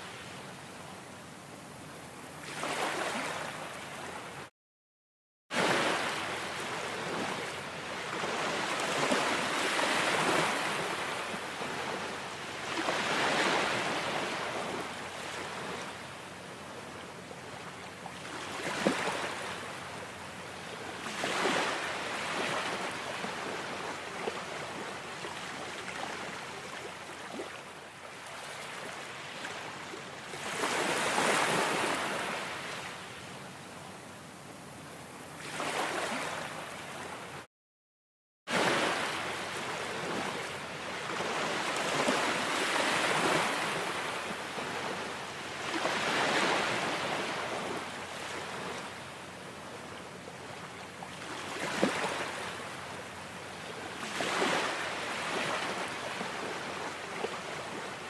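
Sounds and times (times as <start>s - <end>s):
ocean waves washing onto shore: 0.0s - 4.5s, 5.5s - 37.5s, 38.5s - 58.0s.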